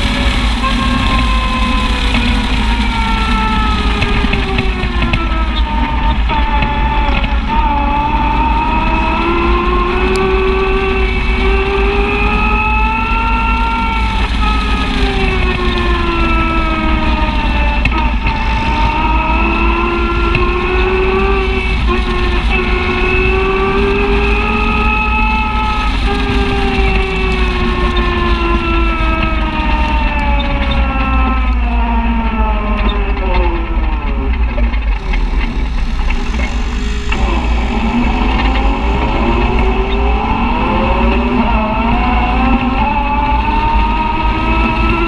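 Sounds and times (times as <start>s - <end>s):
low rumble: 0.0s - 45.0s
utility vehicle engine whine: 0.0s - 45.0s.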